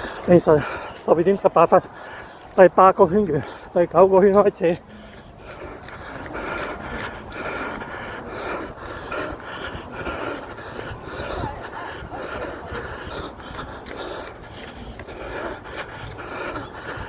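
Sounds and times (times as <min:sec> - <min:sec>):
person panting heavily: 0:00.0 - 0:17.0.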